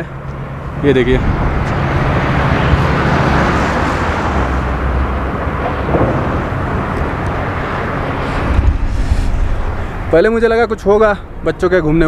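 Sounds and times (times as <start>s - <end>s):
wind blowing across microphone: 0.9s - 11.5s.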